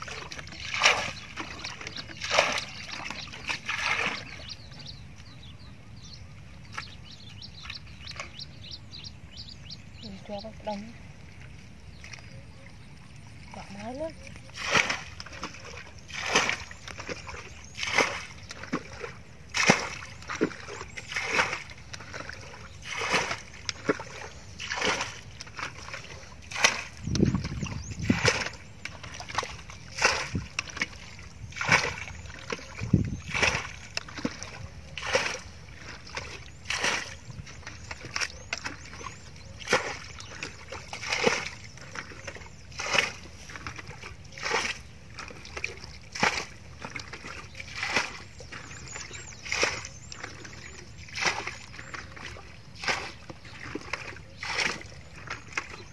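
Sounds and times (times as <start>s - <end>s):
bucket splashing muddy water: 0.0s - 5.2s, 10.1s - 55.9s
deeper water sloshes: 0.0s - 5.6s, 6.4s - 55.9s.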